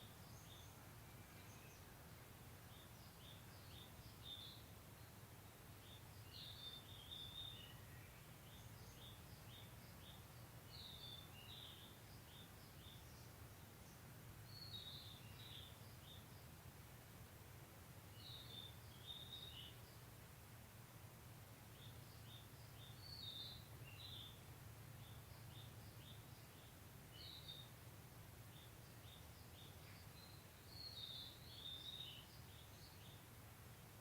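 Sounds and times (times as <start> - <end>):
low steady hum: 0.0 - 34.0
songbirds chirping and warbling: 0.0 - 34.0.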